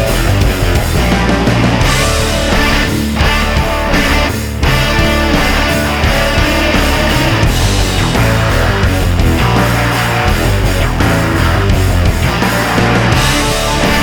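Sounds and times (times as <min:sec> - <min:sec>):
heavy rock music: 0:00.0 - 0:14.0.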